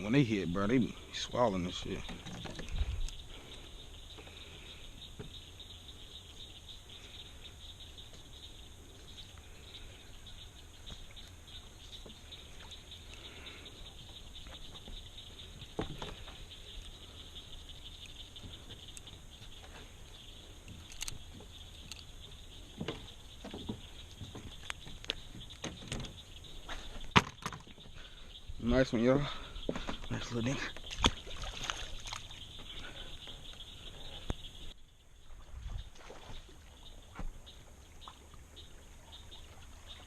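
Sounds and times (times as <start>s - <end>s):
insects and frogs chirring: 0.0s - 40.0s.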